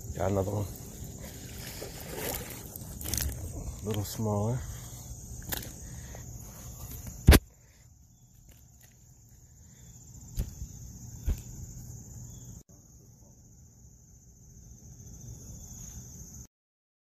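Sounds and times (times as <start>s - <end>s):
insects chirping: 0.0s - 16.5s.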